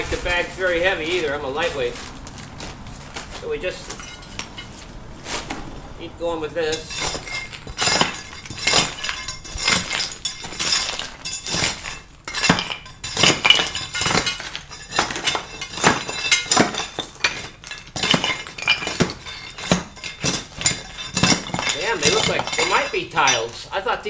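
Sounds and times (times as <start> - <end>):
rubble clinking into bag: 0.0 - 5.6, 6.7 - 23.7.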